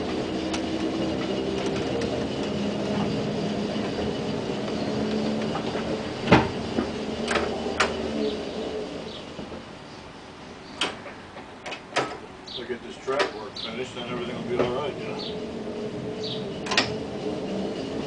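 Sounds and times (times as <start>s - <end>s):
locomotive motor gear whine: 0.0s - 18.0s.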